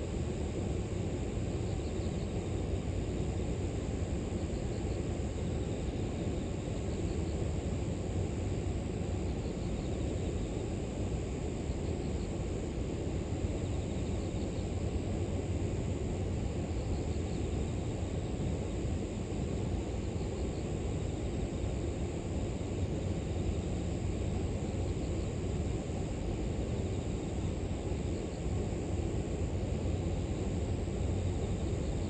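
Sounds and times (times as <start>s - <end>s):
faint insects chirping: 0.0s - 32.0s.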